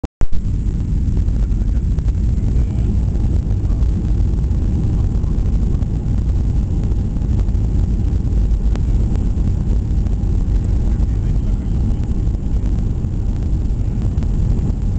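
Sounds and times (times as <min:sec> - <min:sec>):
airliner cabin rumble: 0:00.2 - 0:14.9.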